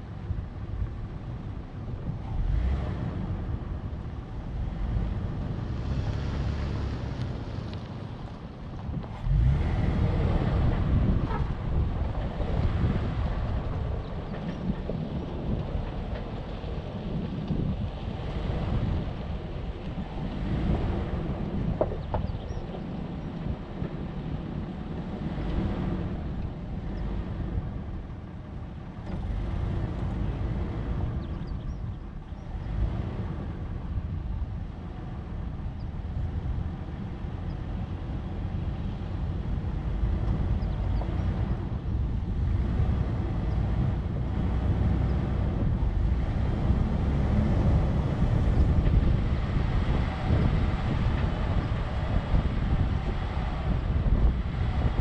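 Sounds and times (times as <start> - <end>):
vehicle engine and tyre rumble: 0.0 - 55.0.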